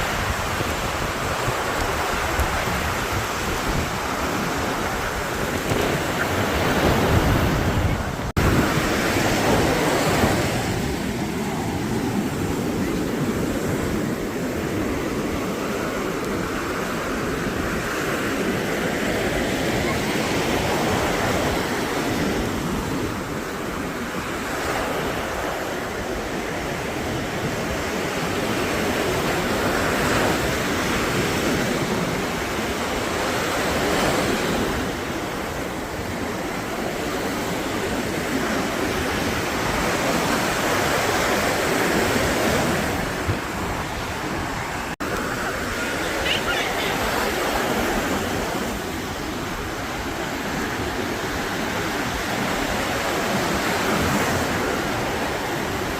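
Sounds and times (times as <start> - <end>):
surf breaking on beach: 0.0 - 55.9.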